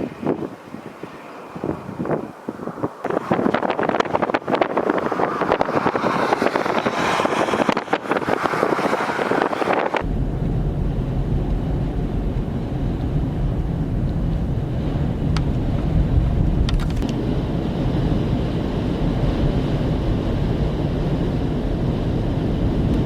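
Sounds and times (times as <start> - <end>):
wind buffeting microphone: 0.0 - 23.0
steady low rumble: 1.6 - 23.0.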